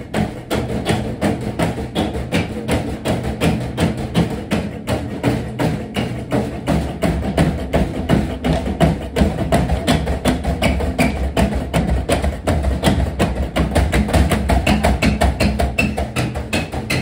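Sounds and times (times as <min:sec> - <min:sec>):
washing machine drum knocking: 0:00.0 - 0:17.0.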